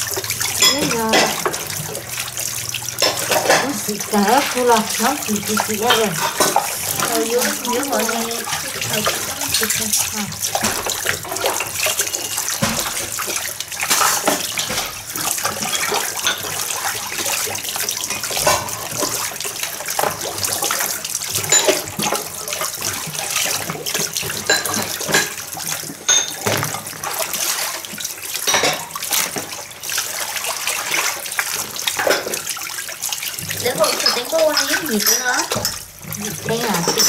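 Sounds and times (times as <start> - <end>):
water pouring from a hose: 0.0 - 37.0
water splashing and sloshing: 0.0 - 37.0.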